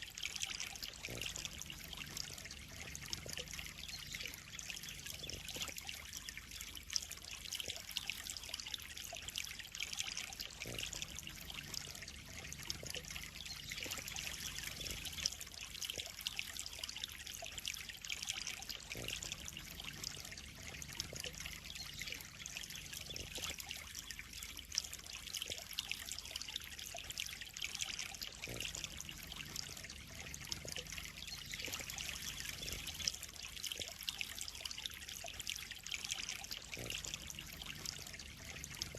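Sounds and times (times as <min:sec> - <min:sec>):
pond water trickling and splashing: 0:00.0 - 0:38.9
water drips: 0:00.0 - 0:38.9.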